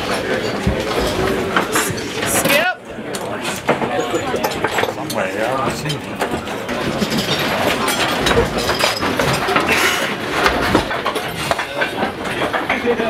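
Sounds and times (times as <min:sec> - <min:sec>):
crowd of overlapping voices: 0:00.0 - 0:13.0.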